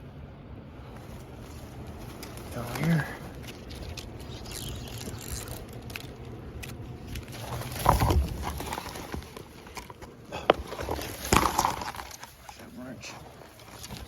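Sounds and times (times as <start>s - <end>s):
footsteps crunching: 0.8s - 14.0s
rustling through brush: 0.8s - 14.0s.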